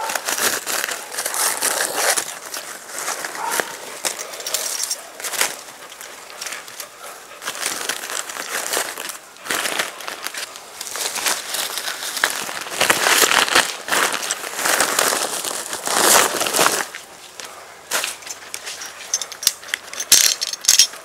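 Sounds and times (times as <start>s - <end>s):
plastic wrap crinkling: 0.0s - 6.7s, 7.4s - 20.0s.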